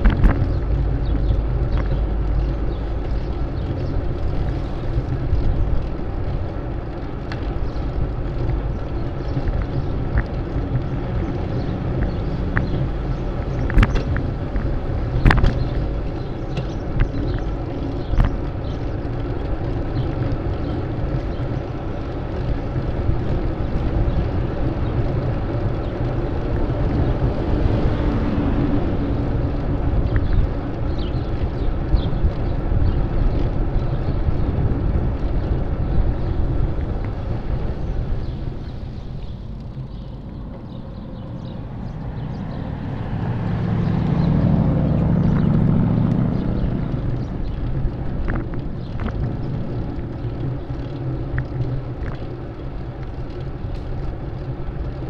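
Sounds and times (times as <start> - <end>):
road and traffic noise: 0.0 - 55.0
wind rushing over microphone: 0.0 - 55.0.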